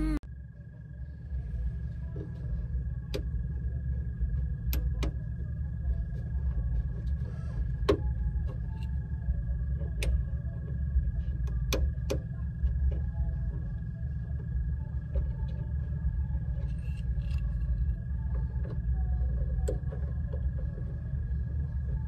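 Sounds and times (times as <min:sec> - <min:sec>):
engine and drivetrain rumble: 0:00.0 - 0:22.0.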